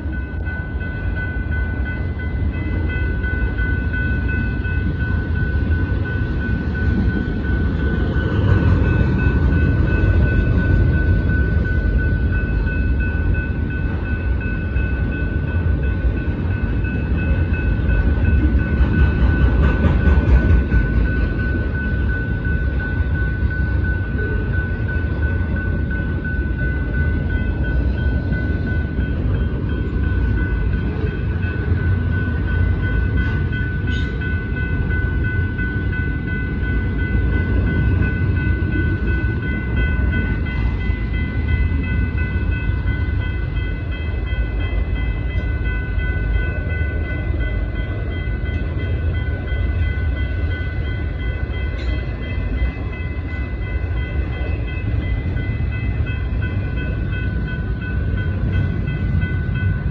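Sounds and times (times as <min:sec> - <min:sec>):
crossing warning bell ringing: 0:00.0 - 0:59.9
freight train wheels rumbling: 0:00.0 - 0:59.9.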